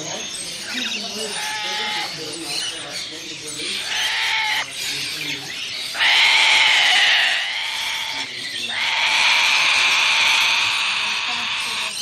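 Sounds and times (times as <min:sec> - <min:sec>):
parrot screeching: 0:00.6 - 0:02.8, 0:03.6 - 0:12.0.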